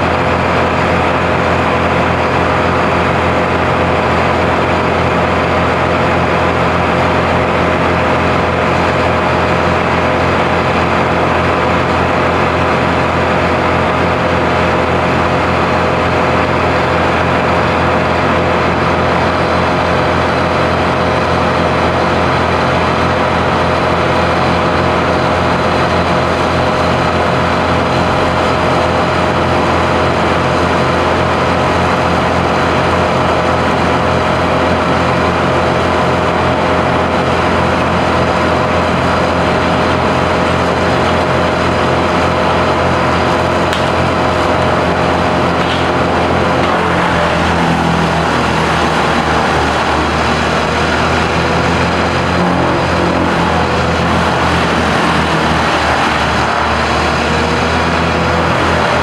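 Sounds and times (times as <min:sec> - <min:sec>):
heavy engine humming: 0:00.0 - 0:59.0.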